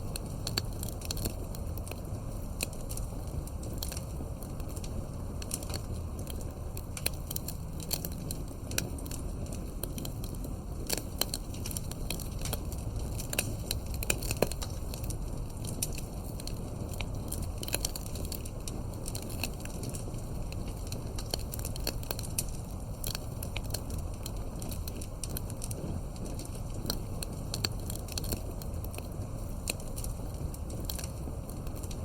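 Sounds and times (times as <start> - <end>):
low steady rumble: 0.0 - 32.0
wood fire crackling: 0.0 - 32.0.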